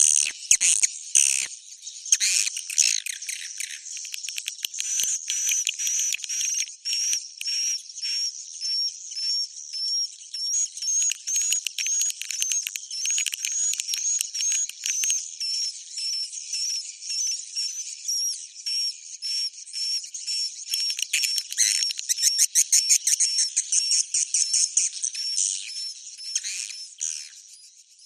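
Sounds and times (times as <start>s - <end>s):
high twittering bird chirps: 0.0s - 28.0s.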